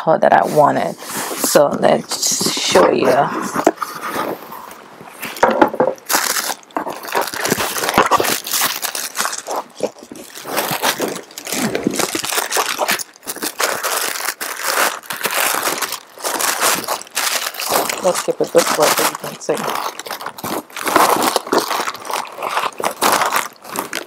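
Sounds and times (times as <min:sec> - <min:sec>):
paper packaging rustling: 0:00.5 - 0:24.0.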